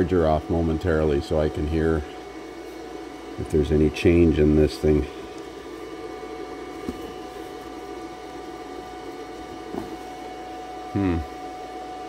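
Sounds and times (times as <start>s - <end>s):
cooling fan hum with whine: 0.0s - 12.0s.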